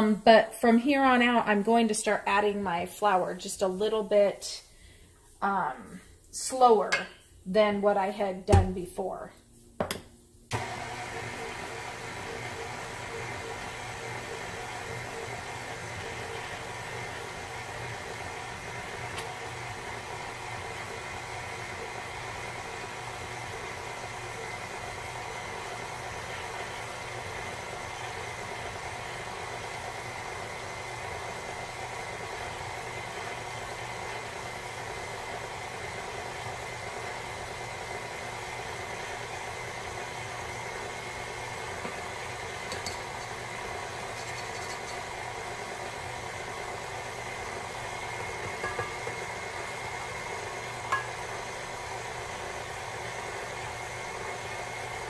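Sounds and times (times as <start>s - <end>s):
stand mixer motor humming: 10.5s - 55.0s.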